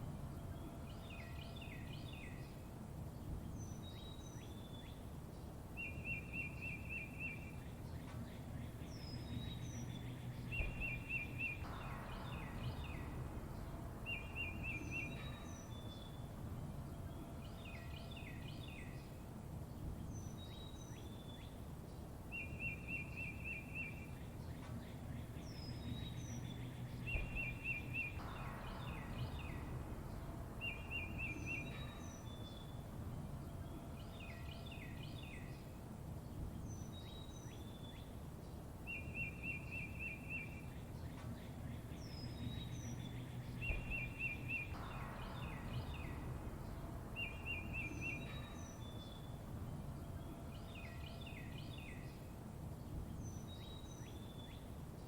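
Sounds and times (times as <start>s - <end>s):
low background rumble: 0.0s - 55.0s
songbirds chirping: 0.0s - 55.0s.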